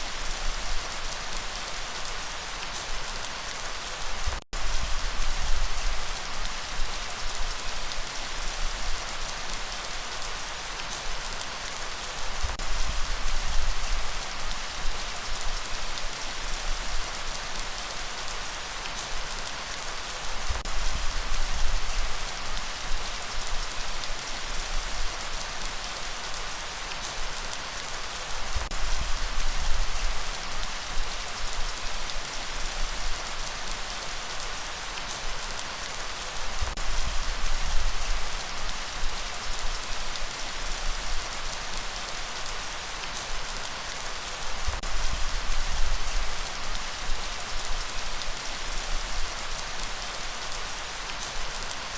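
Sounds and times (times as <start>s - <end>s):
rain pattering: 0.0s - 51.9s.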